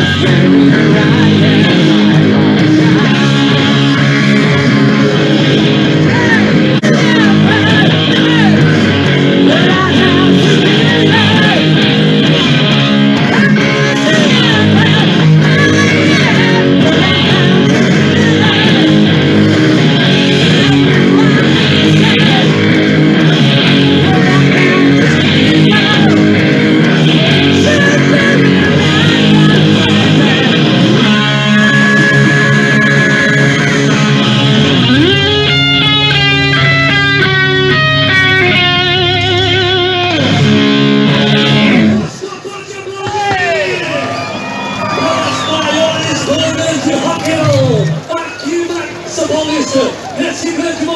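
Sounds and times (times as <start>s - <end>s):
electric guitar: 0.0s - 42.2s, 43.1s - 50.9s
hard rock band playing live: 0.0s - 42.2s, 43.4s - 50.0s.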